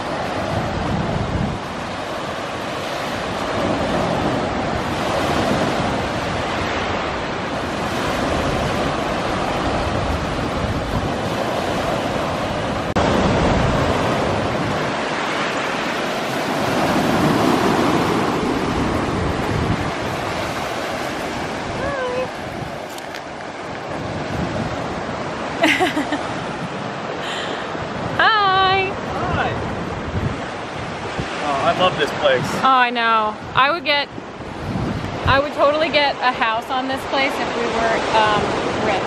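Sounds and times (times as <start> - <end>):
small waves breaking on beach: 0.0 - 39.0.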